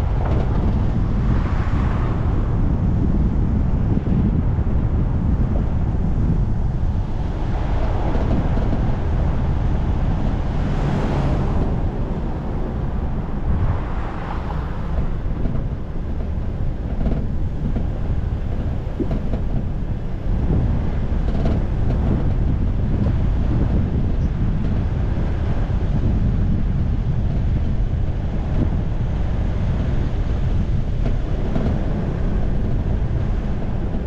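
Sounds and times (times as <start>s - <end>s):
road and traffic noise: 0.0s - 34.0s
wind rumble on microphone: 0.0s - 34.0s.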